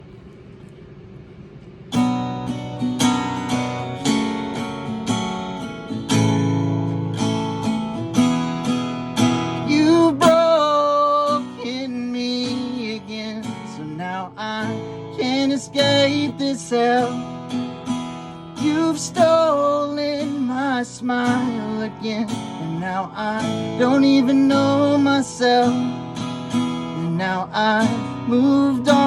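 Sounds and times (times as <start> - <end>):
acoustic guitar strumming chords: 1.9 - 29.0.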